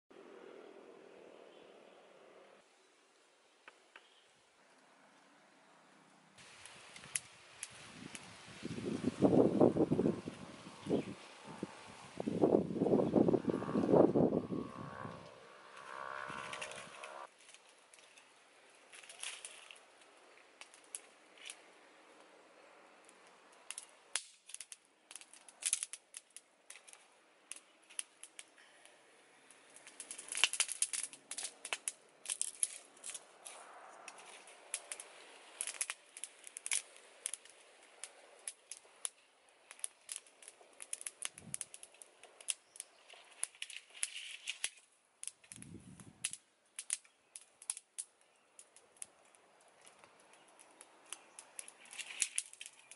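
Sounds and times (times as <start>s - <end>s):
wood fire crackling: 6.4s - 52.9s.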